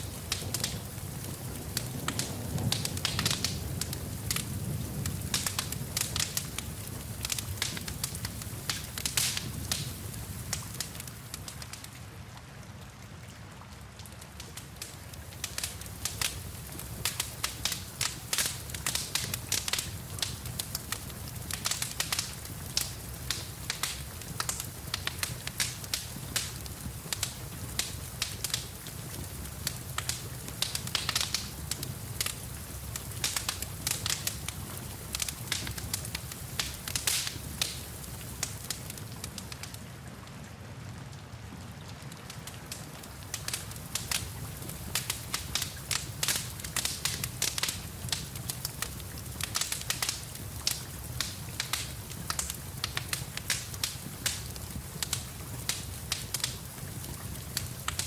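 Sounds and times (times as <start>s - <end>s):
wood fire crackling and popping: 0.0s - 12.0s, 13.6s - 40.3s, 41.4s - 58.0s
rain hissing: 0.0s - 12.2s, 14.6s - 40.1s, 42.3s - 58.0s.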